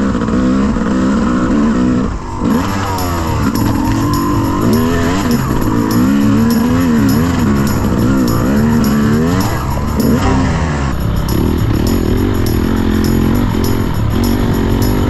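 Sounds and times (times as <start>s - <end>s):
dirt bike engine revving: 0.0s - 15.0s
music: 2.5s - 15.0s.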